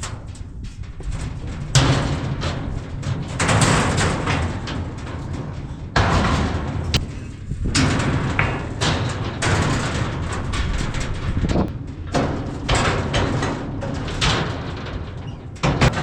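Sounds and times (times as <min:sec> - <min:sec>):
metal clattering: 0:00.0 - 0:16.0.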